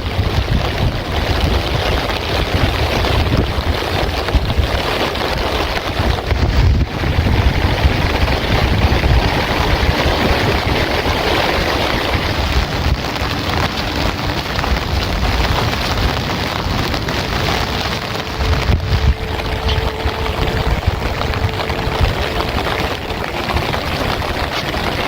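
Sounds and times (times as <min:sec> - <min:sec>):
heavy rain: 0:00.0 - 0:25.0
wind noise on microphone: 0:00.0 - 0:25.0.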